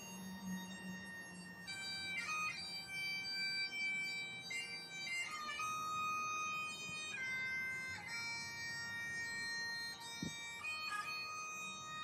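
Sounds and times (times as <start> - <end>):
bagpipe playing slow melody: 0.0 - 12.0.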